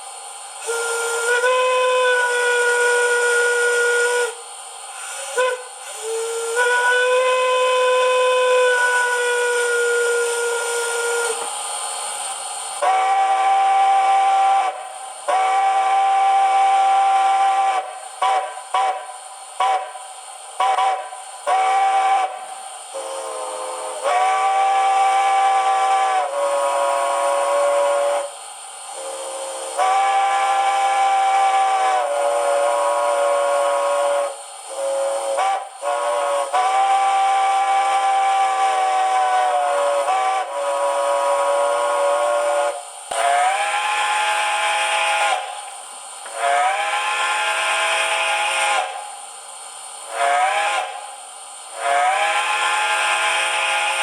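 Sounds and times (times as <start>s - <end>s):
steam locomotive chime whistle: 0.0s - 12.0s, 12.8s - 54.0s
steam hiss: 0.0s - 54.0s.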